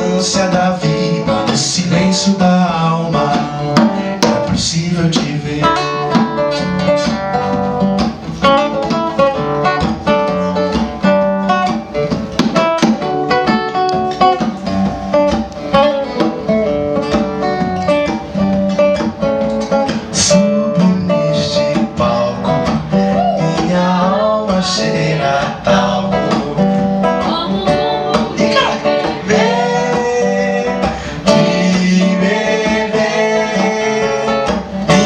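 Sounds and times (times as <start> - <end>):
acoustic guitar picking: 0.0 - 35.0.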